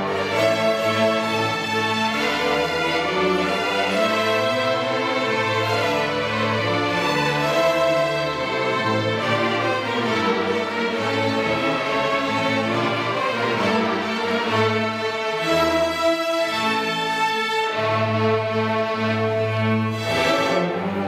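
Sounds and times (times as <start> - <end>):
string orchestra playing: 0.0 - 21.0.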